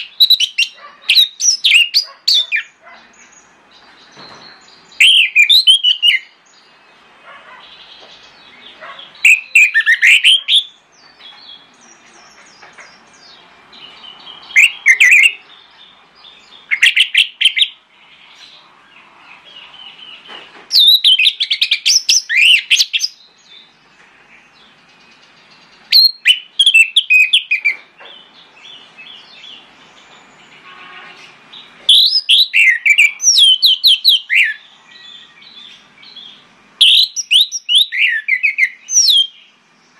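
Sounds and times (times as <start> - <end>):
faint bird twittering: 0.0 - 39.9.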